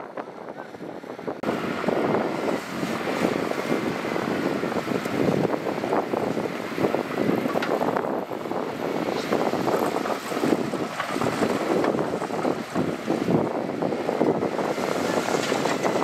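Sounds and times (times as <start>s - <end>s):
heavy equipment engine: 0.0s - 16.0s
wind buffeting microphone: 0.0s - 16.0s.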